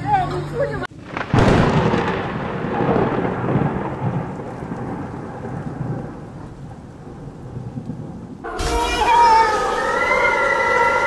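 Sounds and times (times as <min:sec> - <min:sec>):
thunder rumbling: 0:00.9 - 0:11.0.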